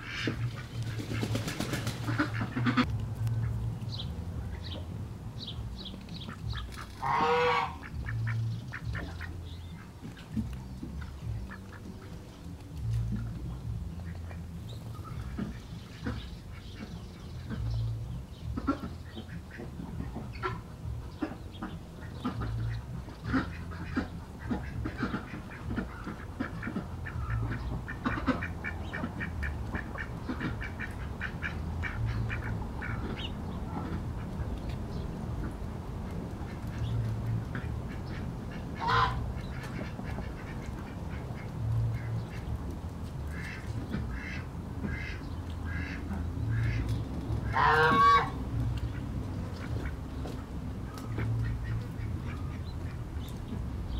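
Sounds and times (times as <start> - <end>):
city traffic drone: 0.0 - 53.9
ducks quacking: 0.0 - 53.9.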